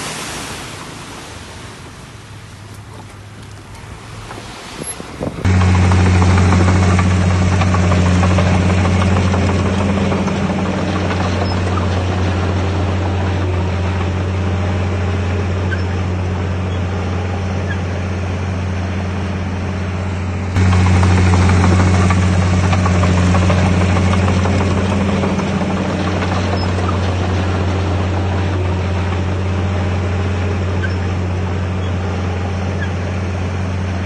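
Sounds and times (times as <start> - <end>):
heavy diesel engine droning: 5.2 - 34.0.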